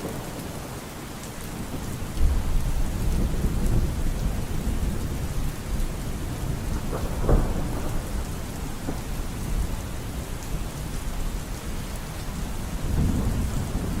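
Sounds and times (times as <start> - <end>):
heavy rain: 0.0 - 14.0
rumbling thunder: 1.6 - 14.0.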